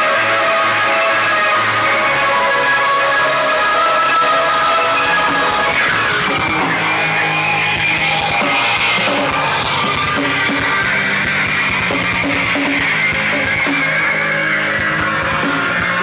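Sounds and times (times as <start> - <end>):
bass and drums: 0.0 - 16.0
distorted electric guitars: 0.0 - 16.0.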